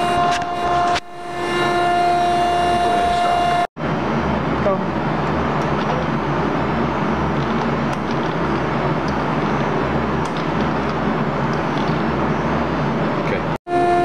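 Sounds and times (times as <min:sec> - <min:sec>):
shop machinery drone: 0:00.0 - 0:14.0.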